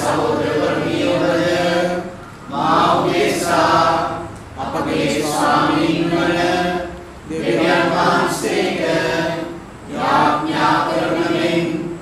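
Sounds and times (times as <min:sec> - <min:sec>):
congregation singing: 0:00.0 - 0:12.0.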